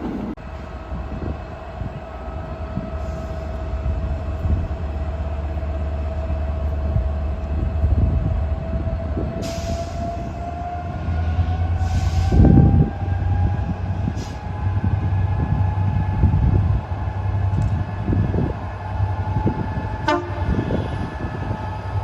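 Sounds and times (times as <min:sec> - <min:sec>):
train rumble and whine: 0:00.0 - 0:22.0.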